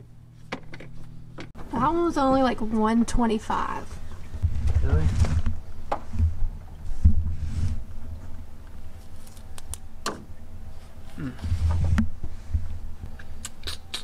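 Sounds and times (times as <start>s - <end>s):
low steady rumble: 0.0s - 13.4s.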